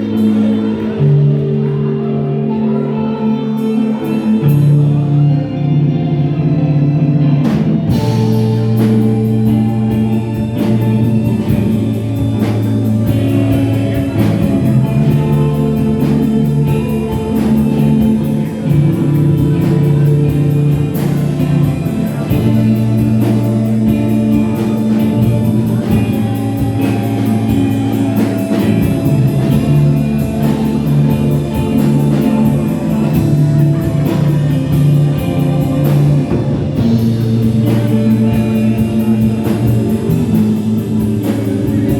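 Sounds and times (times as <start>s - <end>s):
band playing rock music: 0.0s - 41.9s.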